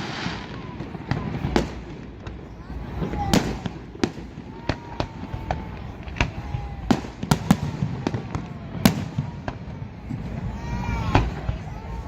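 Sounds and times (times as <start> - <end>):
faint fireworks whistling: 0.0 - 12.0
fireworks bangs: 0.0 - 12.0.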